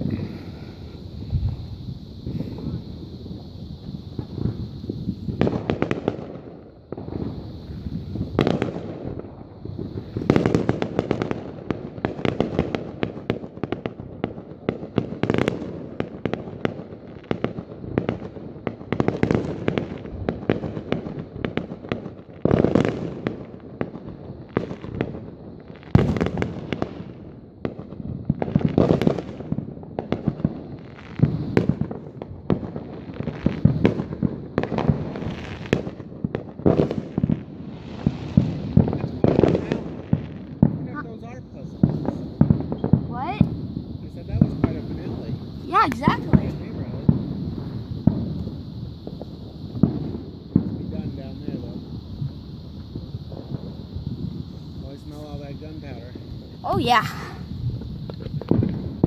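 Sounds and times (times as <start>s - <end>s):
fireworks bangs and crackling: 0.0s - 59.0s
heavy fireworks booms: 0.0s - 59.0s.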